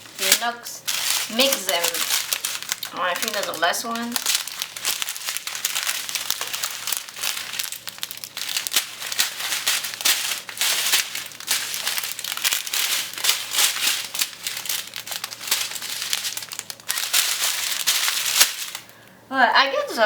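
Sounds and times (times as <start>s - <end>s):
plastic packaging crinkling: 0.0s - 19.2s.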